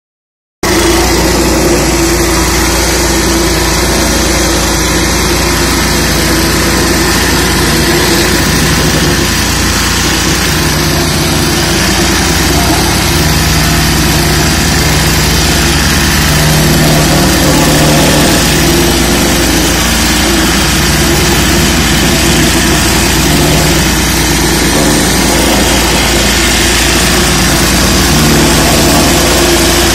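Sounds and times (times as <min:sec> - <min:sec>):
plate compactor diesel engine: 0:00.6 - 0:29.9.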